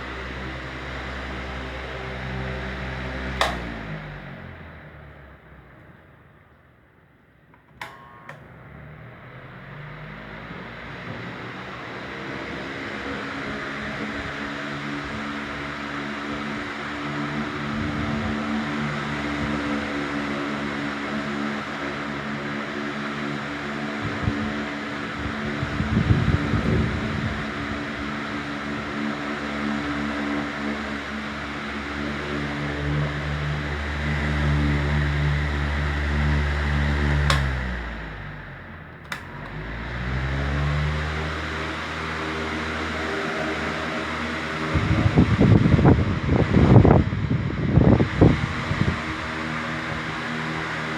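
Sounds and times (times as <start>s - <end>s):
electric fan spinning up: 0.0s - 50.9s
low motor hum: 0.0s - 50.9s.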